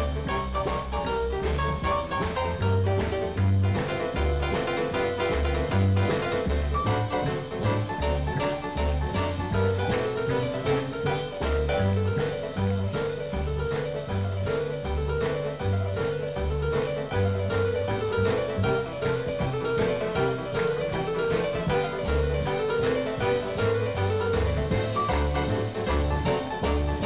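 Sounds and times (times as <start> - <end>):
bass: 0.0 - 27.0
drums keeping a beat: 0.0 - 27.0
jazz piano solo: 0.0 - 27.0.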